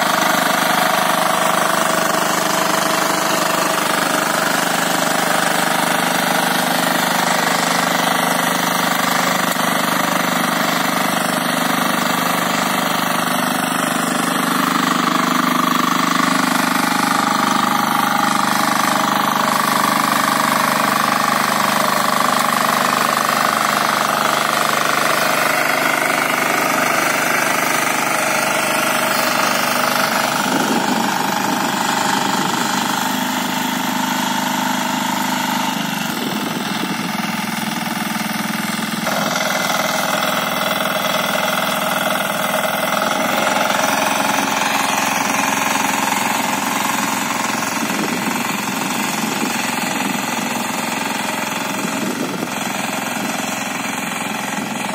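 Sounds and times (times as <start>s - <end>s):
diesel power weeder tilling soil: 0.0s - 54.9s.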